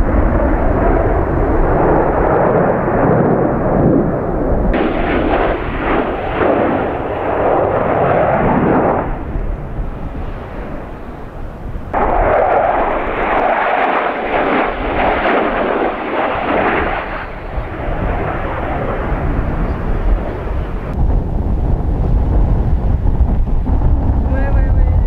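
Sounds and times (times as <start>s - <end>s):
jet roar overhead: 0.0s - 25.0s.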